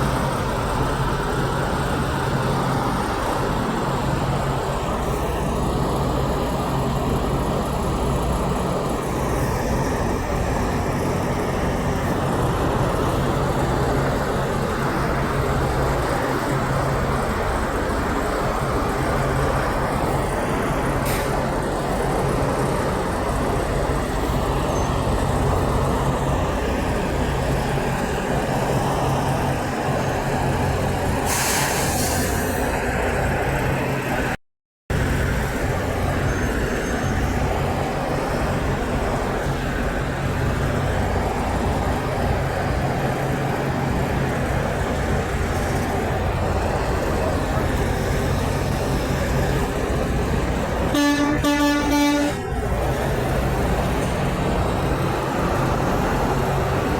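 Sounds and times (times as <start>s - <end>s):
road traffic engine hum: 0.0s - 56.9s.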